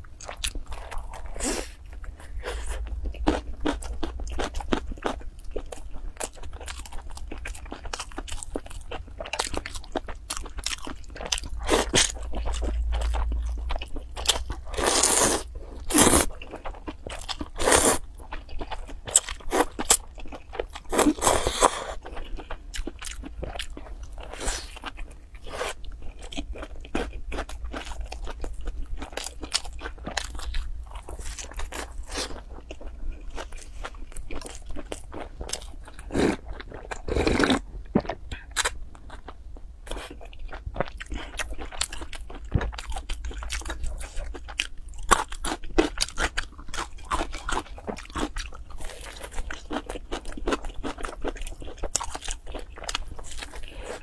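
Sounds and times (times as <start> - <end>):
chewing crusty bread: 0.0 - 54.0.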